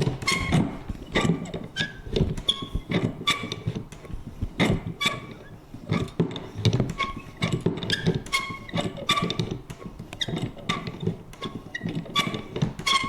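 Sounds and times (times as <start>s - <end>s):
squeaky creaks: 0.1s - 3.8s, 4.6s - 6.2s, 6.9s - 13.0s.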